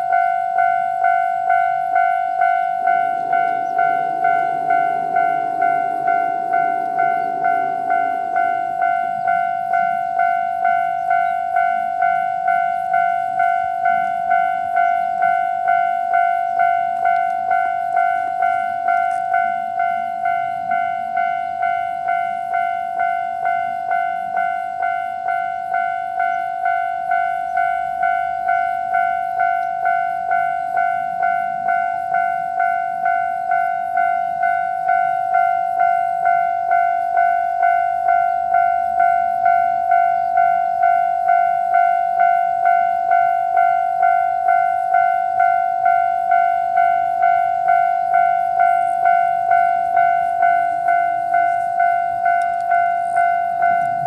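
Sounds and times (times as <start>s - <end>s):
level crossing alarm bell ringing: 0.0s - 54.0s.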